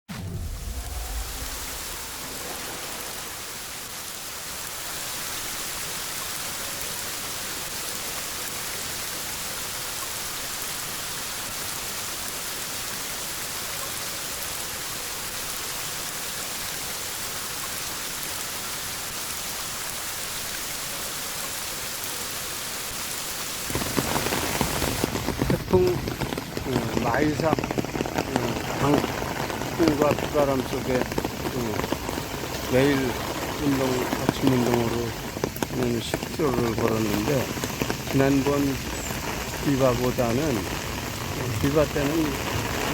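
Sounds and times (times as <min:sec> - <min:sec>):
heavy rain hiss: 0:00.1 - 0:42.9.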